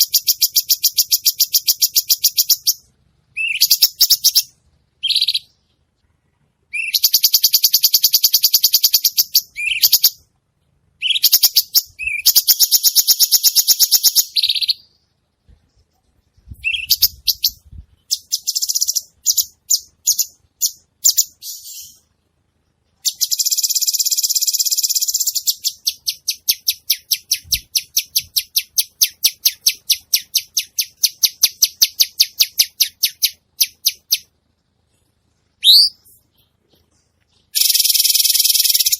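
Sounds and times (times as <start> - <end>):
songbird singing buzzy trills: 0.0 - 38.9.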